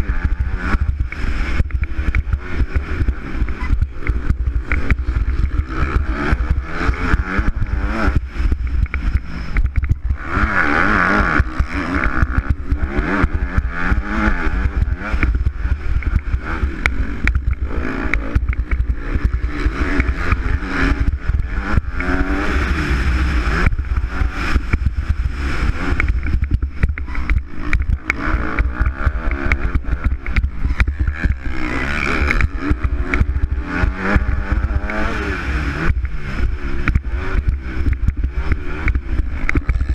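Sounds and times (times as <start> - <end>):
motocross bike engine revving: 0.0 - 39.9
wind rumble on microphone: 0.0 - 39.9.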